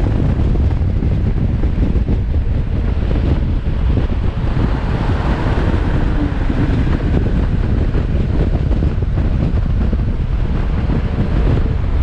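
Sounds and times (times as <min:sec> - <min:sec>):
road and engine noise: 0:00.0 - 0:12.0
wind buffeting microphone: 0:00.0 - 0:12.0.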